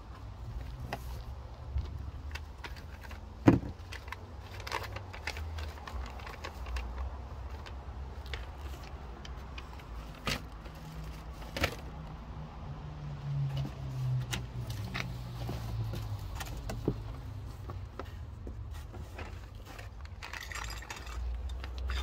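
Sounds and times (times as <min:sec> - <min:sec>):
cardboard and paper crinkling: 0:00.5 - 0:12.0, 0:13.6 - 0:22.0.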